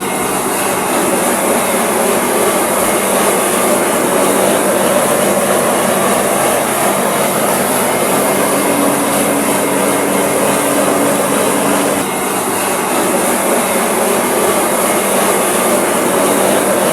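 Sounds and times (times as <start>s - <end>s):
machinery noise with hum: 0.0s - 16.9s.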